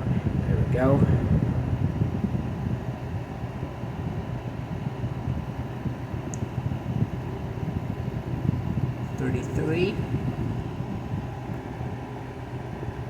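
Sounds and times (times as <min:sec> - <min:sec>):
air conditioner fan hum: 0:00.0 - 0:13.0.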